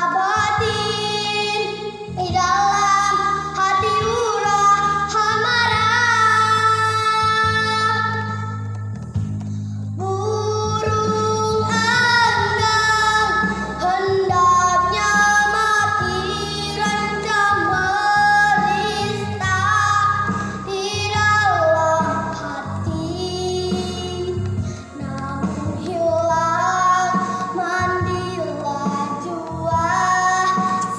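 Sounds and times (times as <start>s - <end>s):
girl singing: 0.0s - 8.7s, 10.0s - 30.9s
low backing accompaniment: 0.0s - 30.9s.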